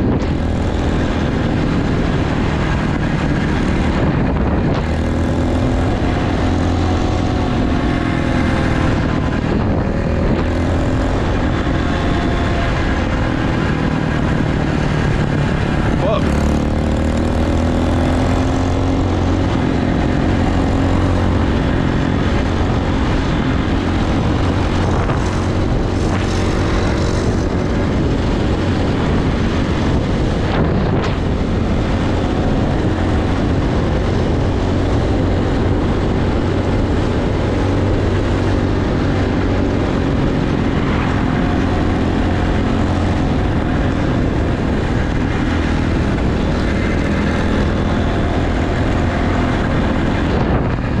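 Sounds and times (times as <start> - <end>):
dirt bike engine running: 0.0 - 51.0.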